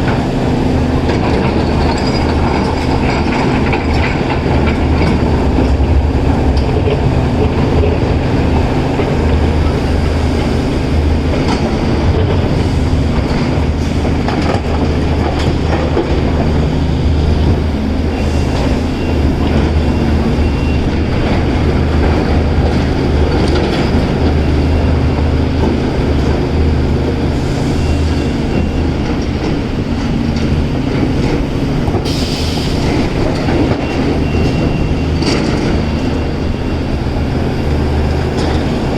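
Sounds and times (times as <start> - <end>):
heavy diesel machinery rumbling: 0.0 - 38.9.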